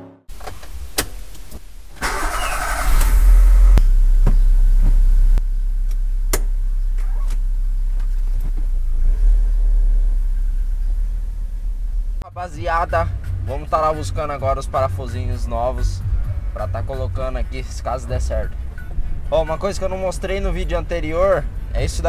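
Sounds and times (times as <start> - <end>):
car engine idling: 0.3 - 22.0.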